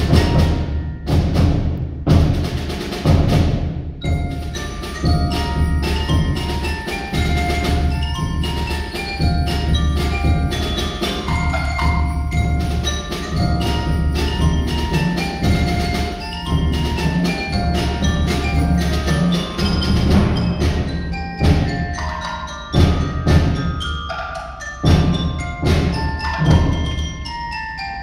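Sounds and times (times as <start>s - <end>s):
sharp loud percussion hits: 0.0s - 27.6s
mallet percussion ensemble playing: 0.0s - 28.0s.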